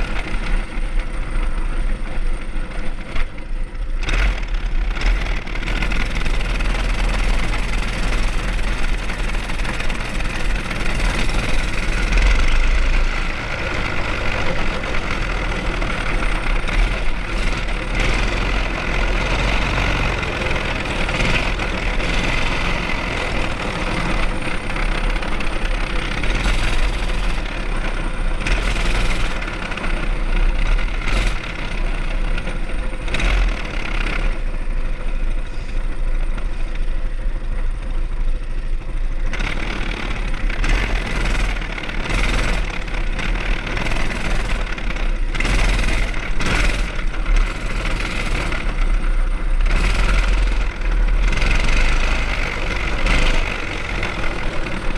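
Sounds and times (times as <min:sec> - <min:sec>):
mini bike engine running: 0:00.0 - 0:54.9.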